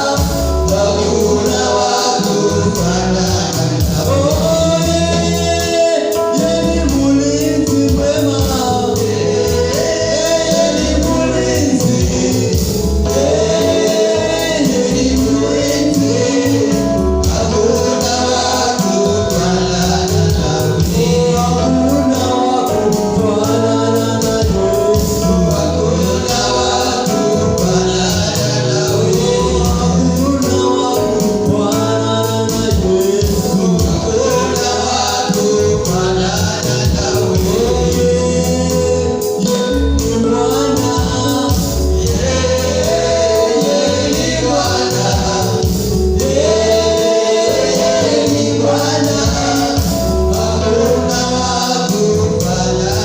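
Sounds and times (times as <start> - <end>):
band with bass and beat: 0.0 - 53.0
choir singing gospel song: 0.0 - 53.0.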